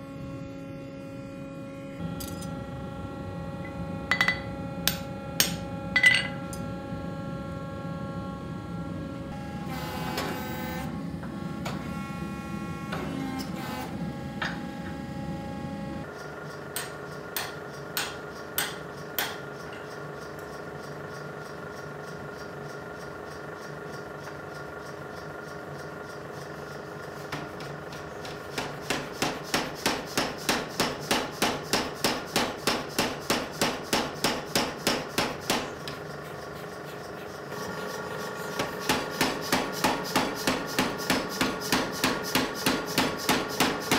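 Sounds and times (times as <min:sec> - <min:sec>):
machine hum: 0:00.0 - 0:31.7, 0:34.7 - 0:43.9.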